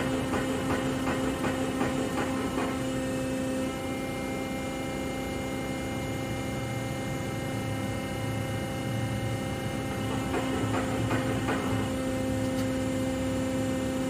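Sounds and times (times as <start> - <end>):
lathe motor humming: 0.0 - 14.0.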